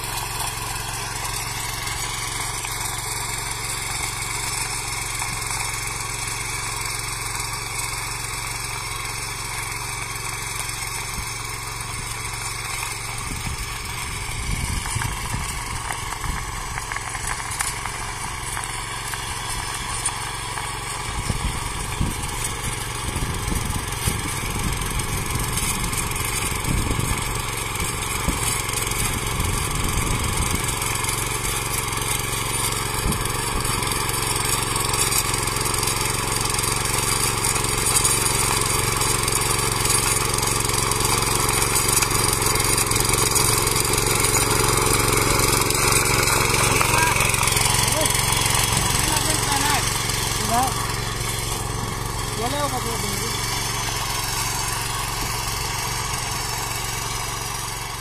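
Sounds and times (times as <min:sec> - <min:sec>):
tiller engine running: 0:00.0 - 0:58.0.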